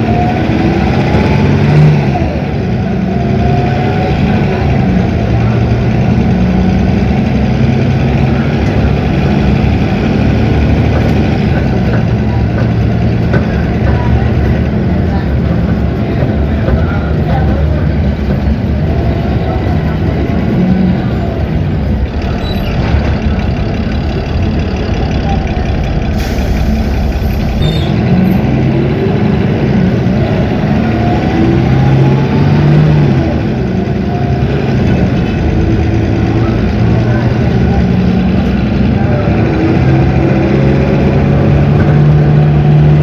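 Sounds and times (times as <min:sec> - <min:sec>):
diesel bus engine running: 0:00.0 - 0:43.0.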